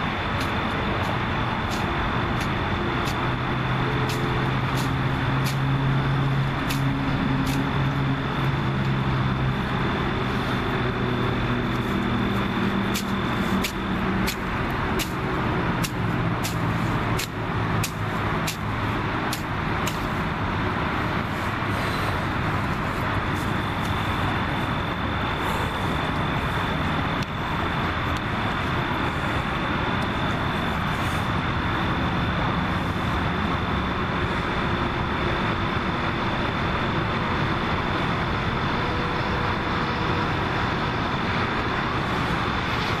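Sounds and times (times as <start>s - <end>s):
outdoor roar: 0.0s - 43.0s.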